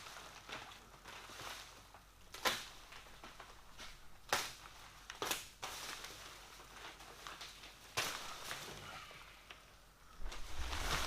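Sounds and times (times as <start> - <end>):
plastic wrap tearing: 0.0 - 9.2
plastic wrap rustling: 0.0 - 11.0.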